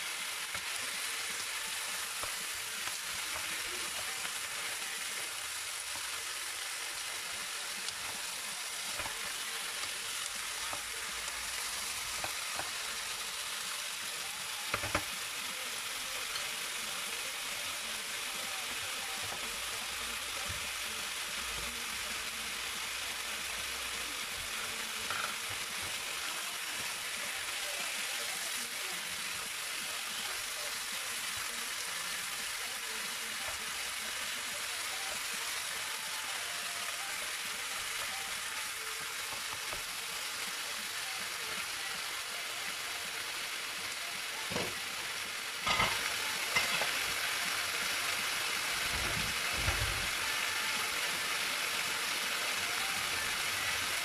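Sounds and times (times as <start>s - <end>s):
chicken sizzling in a frying pan: 0.0s - 54.0s.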